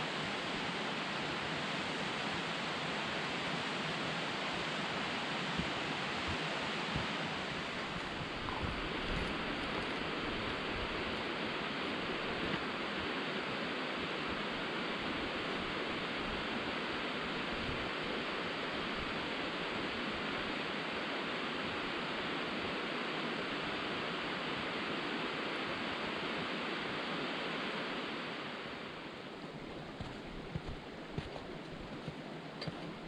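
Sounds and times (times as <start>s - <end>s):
rushing flowing water: 0.0s - 33.0s.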